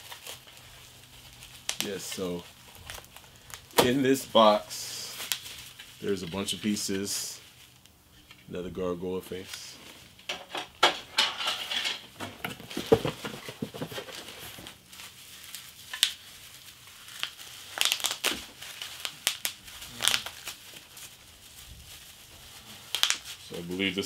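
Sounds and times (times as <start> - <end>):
plastic wrapping crinkling: 0.0 - 8.5, 9.3 - 24.0.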